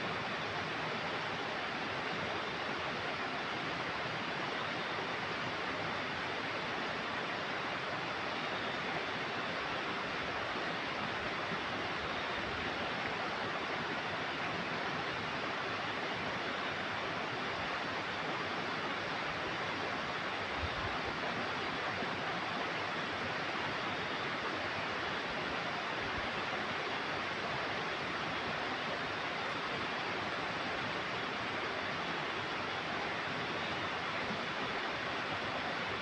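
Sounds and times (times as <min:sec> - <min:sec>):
river water flowing: 0:00.0 - 0:36.0.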